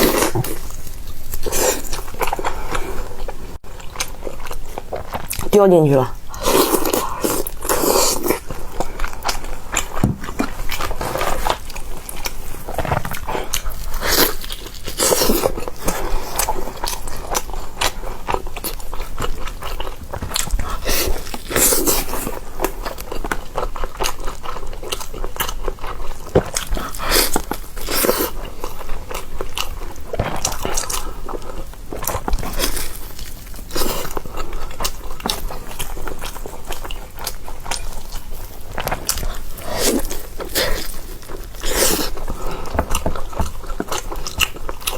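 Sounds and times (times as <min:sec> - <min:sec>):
chewing: 0:00.0 - 0:05.6, 0:06.2 - 0:44.9.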